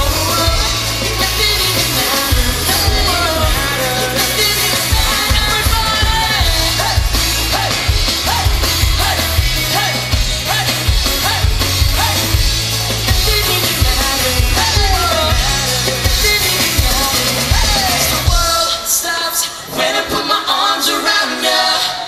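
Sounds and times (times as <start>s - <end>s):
live pop-rock band playing: 0.0s - 19.7s.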